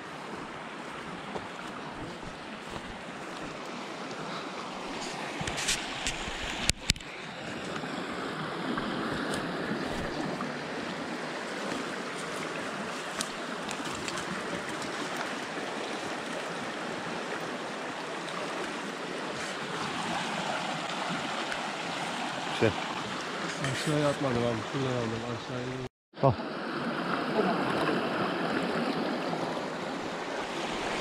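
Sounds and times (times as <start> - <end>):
stream rushing over rocks: 0.0 - 25.3, 26.4 - 31.0.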